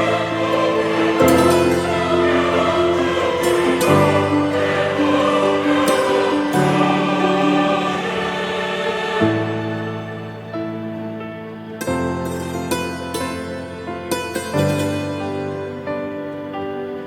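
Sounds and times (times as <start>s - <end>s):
choral voices holding chords: 0.0s - 17.0s.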